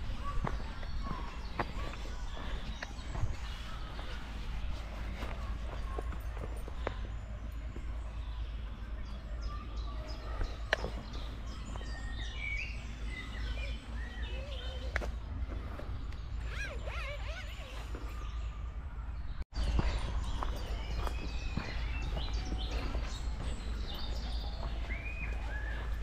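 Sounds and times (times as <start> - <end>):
songbirds chirping and singing: 0.0 - 26.0.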